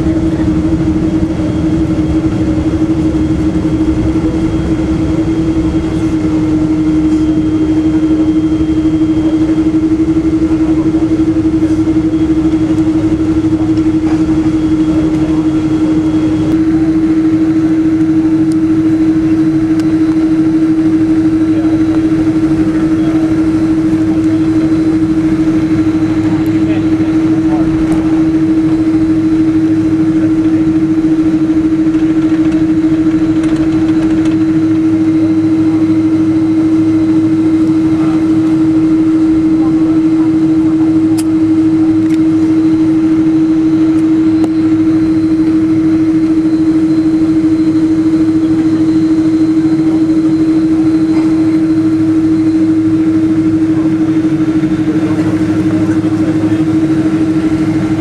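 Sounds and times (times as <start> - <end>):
airliner cabin engine hum: 0.0 - 58.0.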